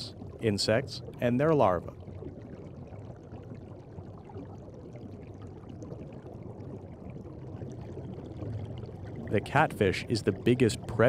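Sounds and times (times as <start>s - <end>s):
water trickling and bubbling: 0.0s - 11.0s.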